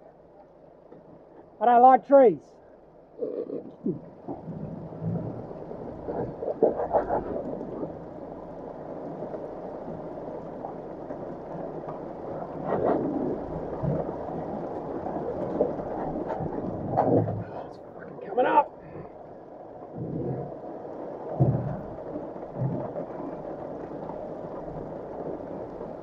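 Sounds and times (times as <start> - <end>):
heavy rain on a car: 3.8 - 26.0.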